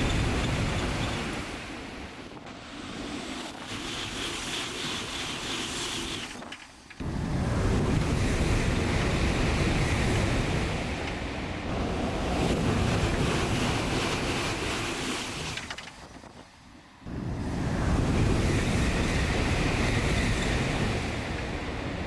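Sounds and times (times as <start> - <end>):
wind buffeting microphone: 0.0 - 4.2, 7.0 - 22.0
high-speed train roaring past: 0.0 - 5.9, 7.0 - 22.0.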